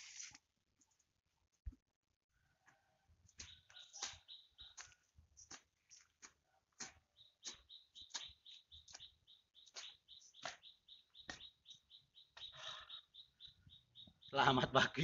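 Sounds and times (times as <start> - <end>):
faint bird chirping: 2.4 - 15.0.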